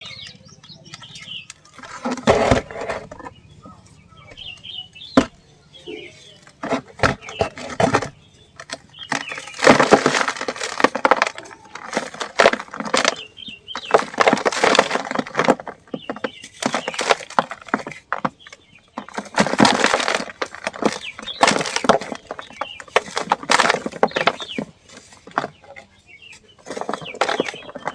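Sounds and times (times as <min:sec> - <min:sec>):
dry clumps crumbling and crackling: 0:00.0 - 0:27.9.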